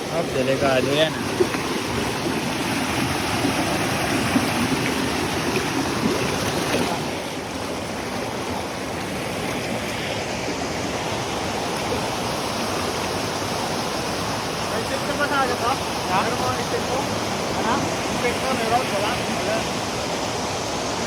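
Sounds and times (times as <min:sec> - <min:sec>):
stream and waterfall rushing: 0:00.0 - 0:21.0.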